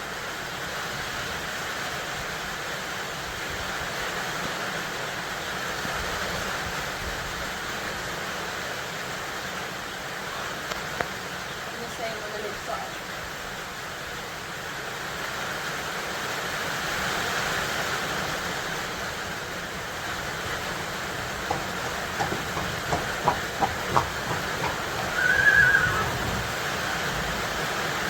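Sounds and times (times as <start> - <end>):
rushing background hiss: 0.0 - 28.0.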